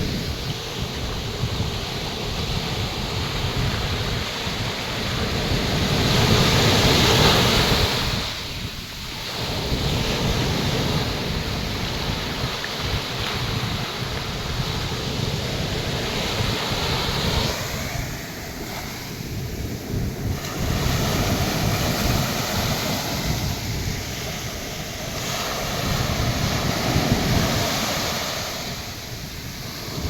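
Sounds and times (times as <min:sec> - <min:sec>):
surf breaking on a beach: 0:00.0 - 0:30.0
wind buffeting microphone: 0:00.0 - 0:30.0.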